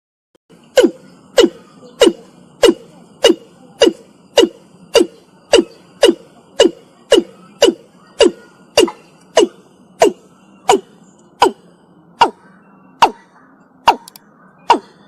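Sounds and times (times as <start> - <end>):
bird calling short notes: 0.7 - 15.0.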